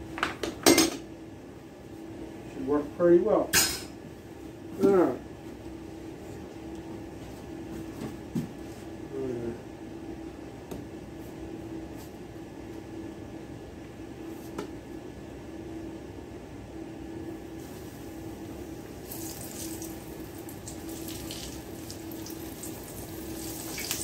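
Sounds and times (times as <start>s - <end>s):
appliance hum: 0.0s - 24.0s.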